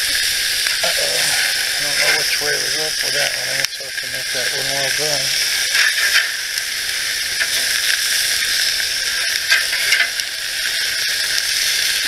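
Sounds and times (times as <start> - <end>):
patties sizzling on a grill: 0.0 - 12.0.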